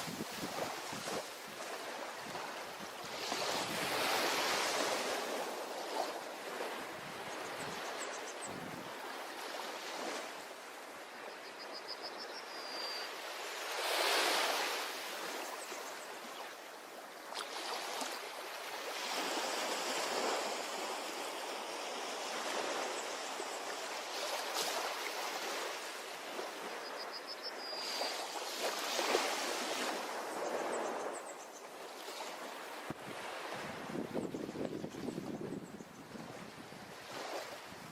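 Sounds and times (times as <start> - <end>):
ocean waves washing onto shore: 0.0 - 11.4, 13.0 - 35.2, 36.1 - 37.9.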